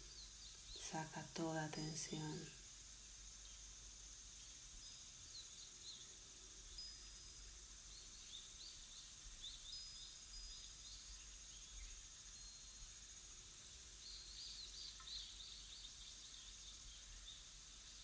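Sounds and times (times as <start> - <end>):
small birds chirping: 0.0 - 18.0
steady high hiss: 0.0 - 18.0.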